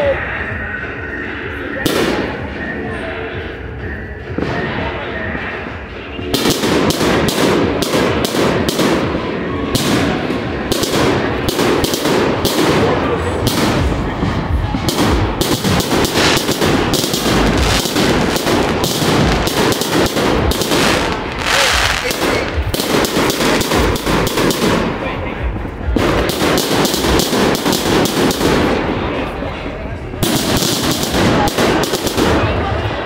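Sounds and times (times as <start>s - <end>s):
fireworks barrage bangs and crackles: 1.8s - 2.6s, 4.3s - 5.4s, 6.2s - 29.4s, 30.1s - 33.0s.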